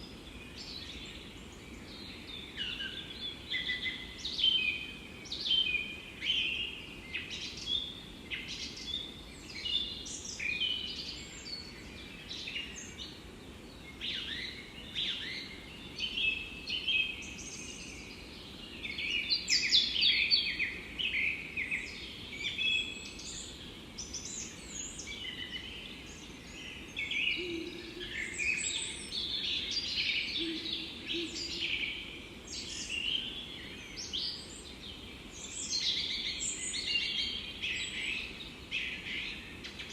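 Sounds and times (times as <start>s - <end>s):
faint background noise: 0.0s - 39.9s
songbirds chirping and trilling: 0.0s - 39.9s.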